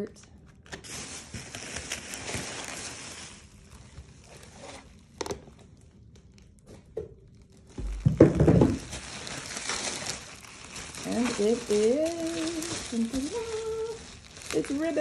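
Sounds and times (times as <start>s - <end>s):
bubble wrap crinkling: 0.4s - 15.0s.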